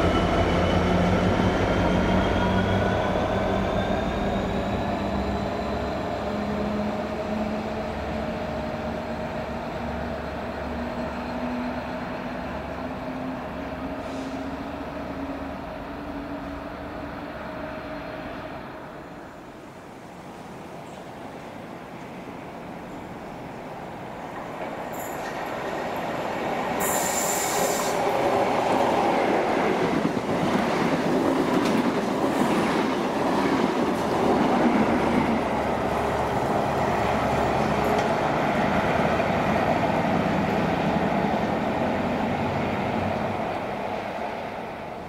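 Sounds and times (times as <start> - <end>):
train running through station: 0.0 - 45.0.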